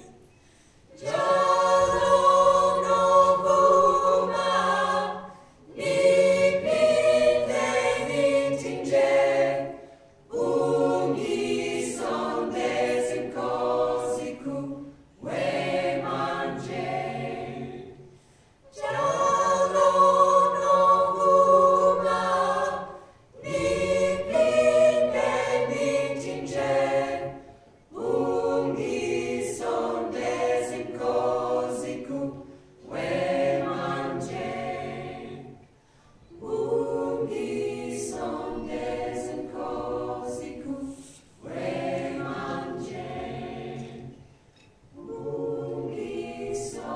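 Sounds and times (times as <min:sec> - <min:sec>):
a cappella choir singing: 0:00.0 - 0:46.9.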